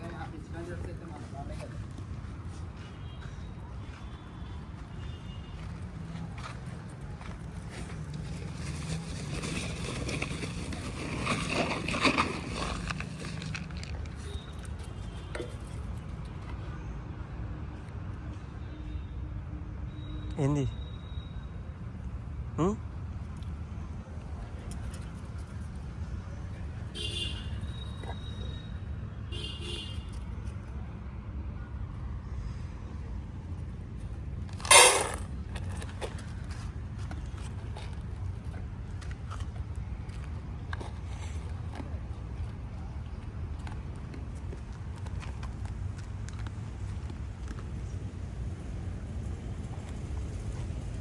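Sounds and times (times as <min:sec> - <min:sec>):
road traffic rumble: 0:00.0 - 0:51.0.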